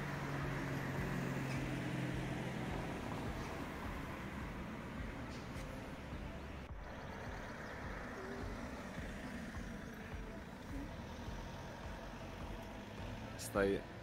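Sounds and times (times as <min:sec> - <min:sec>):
car driving past: 0:00.0 - 0:14.0
low rumble of city traffic: 0:00.0 - 0:14.0.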